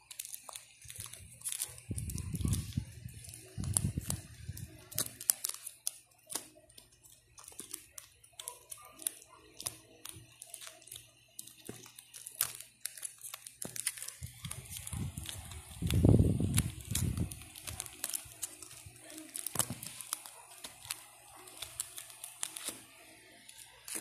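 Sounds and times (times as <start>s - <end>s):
plastic pockets crinkling: 0.0s - 24.0s.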